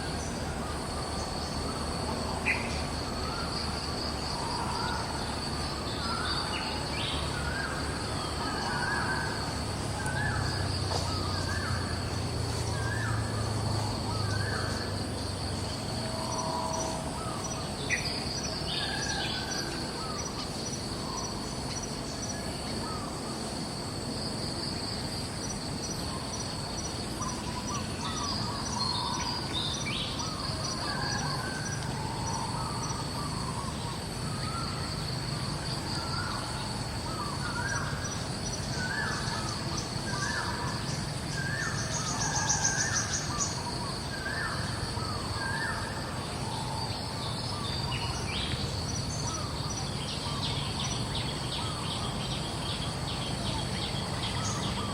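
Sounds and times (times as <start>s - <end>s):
shrill insect chorus: 0.0s - 54.9s.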